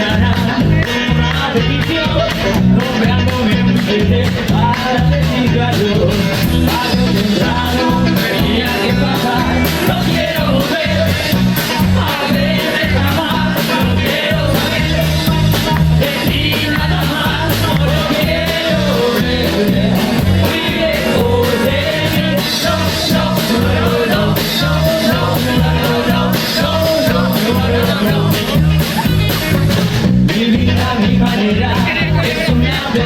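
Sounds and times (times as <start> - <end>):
bass line: 0.0 - 33.0
person singing: 0.0 - 33.0
steady drum beat: 0.0 - 33.0.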